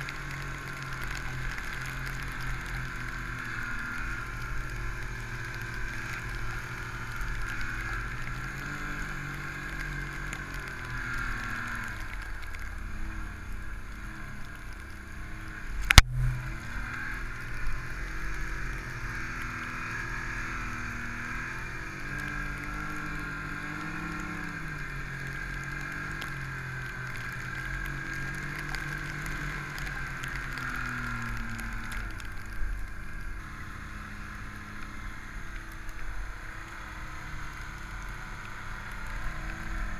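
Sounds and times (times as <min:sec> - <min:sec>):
snowmobile engine: 0:00.0 - 0:39.9.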